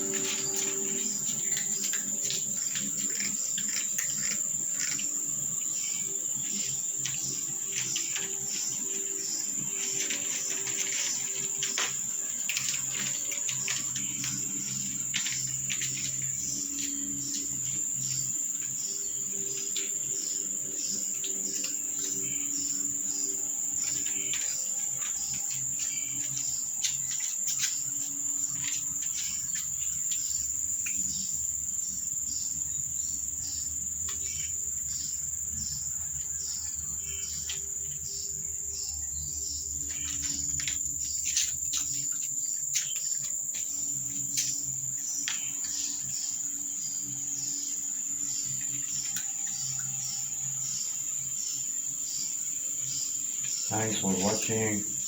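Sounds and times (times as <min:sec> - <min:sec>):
high-pitched insect trill: 0:00.0 - 0:55.0.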